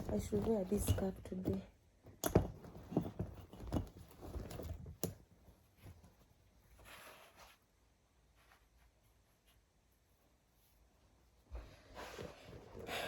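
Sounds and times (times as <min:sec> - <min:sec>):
fabric rustling: 0:02.5 - 0:13.0.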